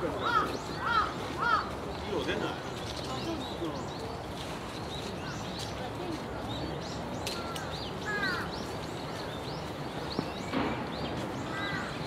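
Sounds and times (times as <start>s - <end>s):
outdoor background noise: 0.0s - 12.0s
small birds chirping: 0.0s - 12.0s.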